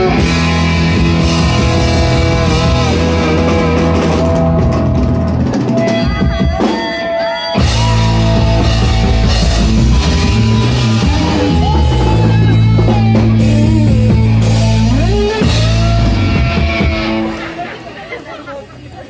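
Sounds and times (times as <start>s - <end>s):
drum kit: 0.0s - 19.0s
electric guitar and bass chords: 0.0s - 19.0s.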